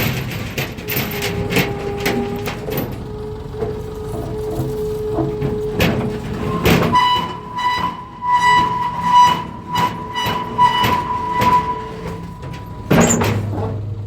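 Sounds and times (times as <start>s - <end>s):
high-pitched metal squeal: 0.0s - 14.0s
metal clanks and scrapes: 0.0s - 14.0s.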